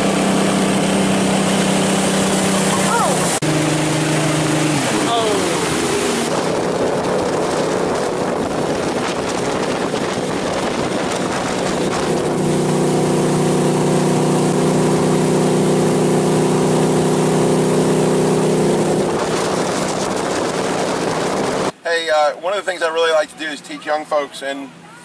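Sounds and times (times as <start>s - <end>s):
boat engine running: 0.0s - 21.8s
water rushing: 0.0s - 22.2s
wind: 0.0s - 25.0s.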